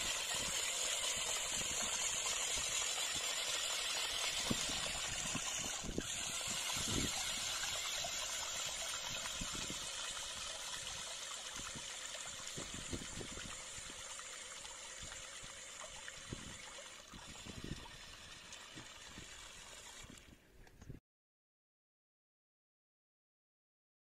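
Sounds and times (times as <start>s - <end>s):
running water trickling: 0.0s - 20.4s.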